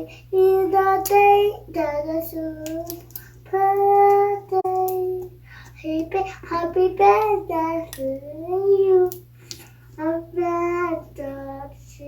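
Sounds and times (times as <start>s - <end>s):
child singing: 0.0s - 9.2s, 10.0s - 12.0s.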